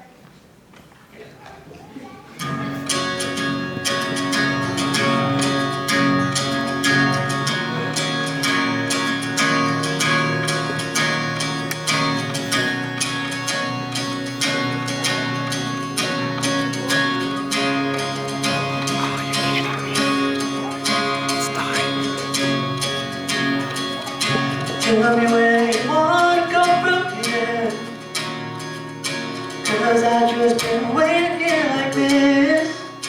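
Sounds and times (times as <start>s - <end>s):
acoustic guitar strumming chords: 2.4s - 33.0s.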